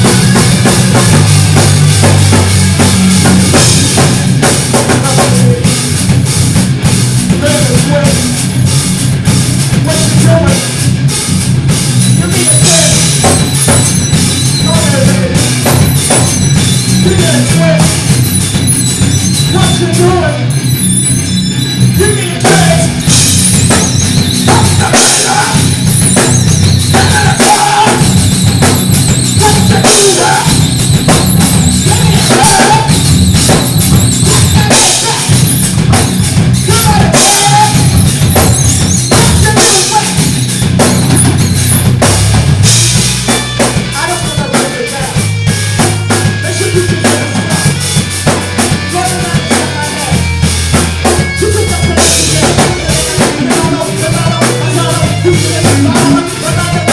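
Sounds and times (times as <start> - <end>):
held bass notes: 0.0 - 56.9
live rock band playing: 0.0 - 56.9.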